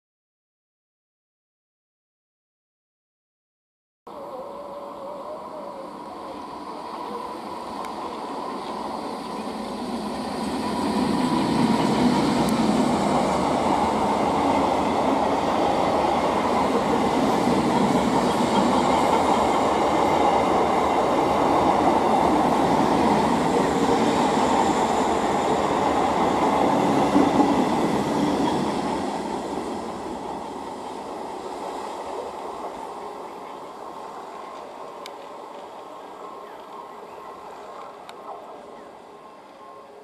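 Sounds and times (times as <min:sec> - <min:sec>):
train wheels rumbling on rails: 0:06.1 - 0:39.8.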